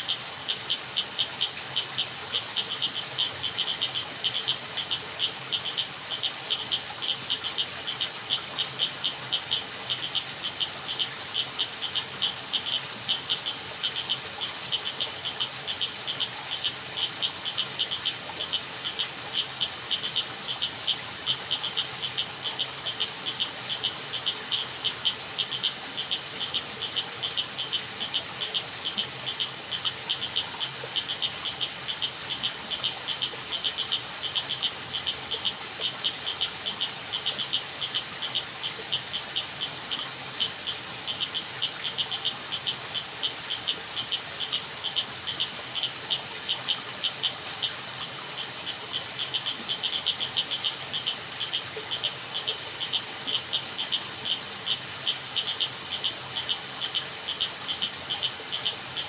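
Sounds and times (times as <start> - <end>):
high clicking frog calls: 0.0 - 59.0.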